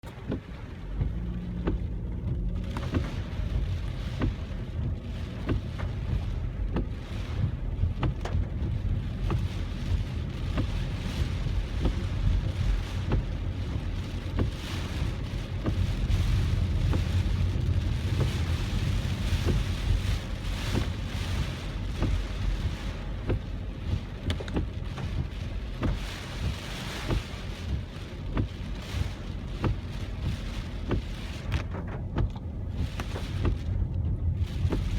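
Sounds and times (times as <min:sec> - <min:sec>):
car rumbling on wet road: 0:00.0 - 0:34.9
raindrops ticking on car body: 0:00.0 - 0:34.9.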